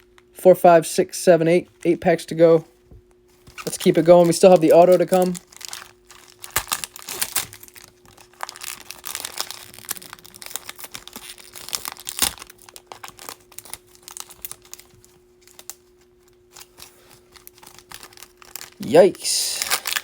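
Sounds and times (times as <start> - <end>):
wrapper crinkling and tearing: 3.4 - 20.0.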